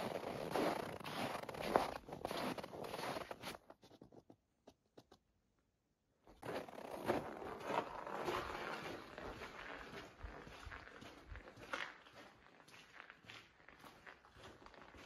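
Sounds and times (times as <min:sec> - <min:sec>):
footsteps crunching in snow: 0:00.0 - 0:04.2, 0:06.4 - 0:15.0.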